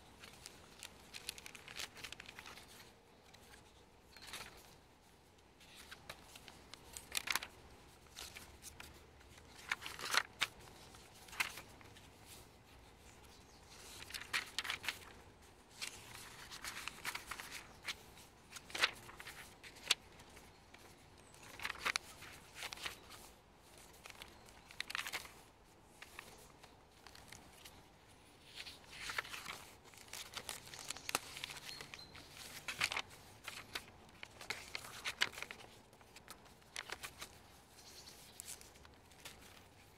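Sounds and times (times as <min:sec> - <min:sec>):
paper pages rustling: 0:00.0 - 0:39.9.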